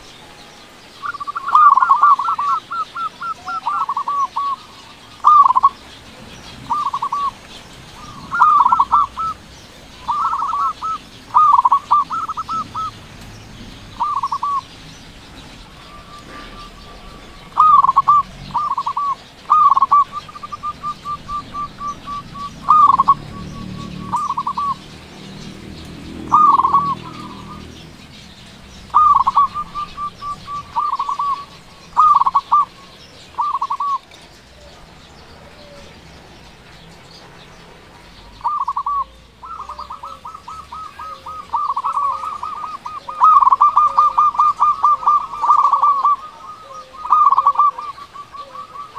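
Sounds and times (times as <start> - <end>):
dove cooing: 1.0 - 36.9, 38.1 - 48.9.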